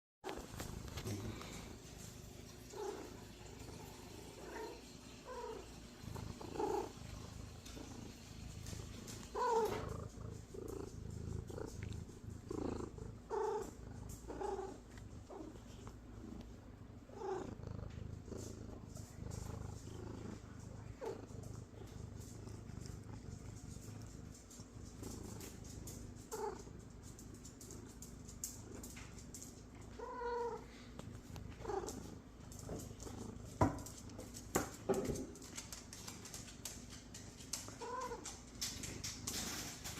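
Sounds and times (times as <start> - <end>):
cat purring: 0.2 - 39.9.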